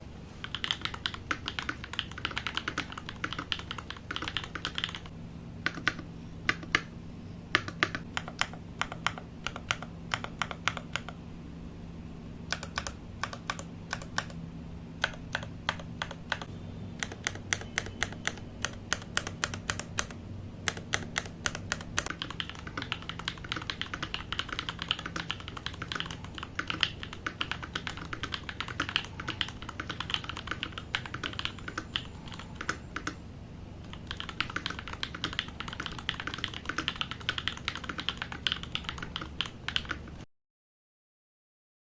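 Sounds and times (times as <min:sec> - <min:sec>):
faint low hum: 0:00.0 - 0:40.2
mechanical keyboard typing: 0:00.4 - 0:06.9, 0:07.5 - 0:11.2, 0:12.5 - 0:14.4, 0:15.0 - 0:33.2, 0:33.8 - 0:40.3.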